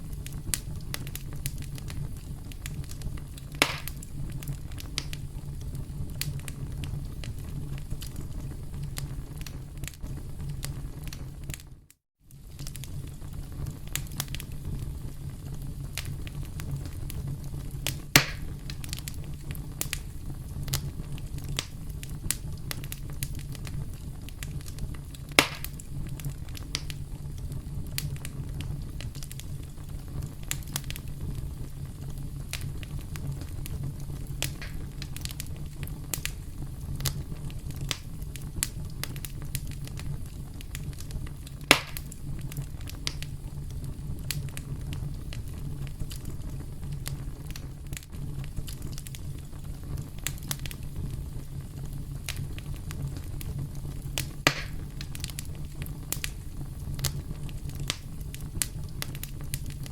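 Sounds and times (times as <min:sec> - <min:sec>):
campfire crackling: 0:00.0 - 0:59.9
loud fire pops: 0:00.0 - 0:59.9.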